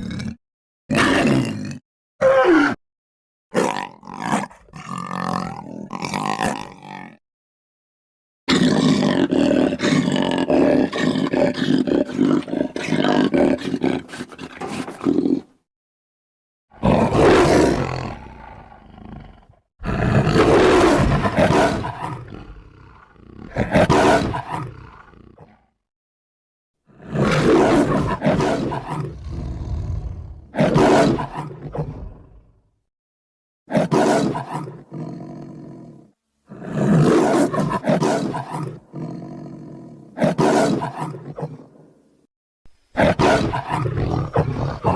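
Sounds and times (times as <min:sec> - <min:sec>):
big cat raspy growl: 0:00.0 - 0:02.8, 0:03.5 - 0:07.2, 0:08.5 - 0:15.6, 0:16.7 - 0:25.8, 0:26.9 - 0:32.7, 0:33.7 - 0:42.0, 0:43.0 - 0:44.9
big cat roars: 0:00.0 - 0:02.8, 0:03.6 - 0:07.2, 0:08.5 - 0:15.5, 0:16.7 - 0:25.7, 0:26.9 - 0:32.6, 0:33.7 - 0:42.0, 0:43.0 - 0:44.9.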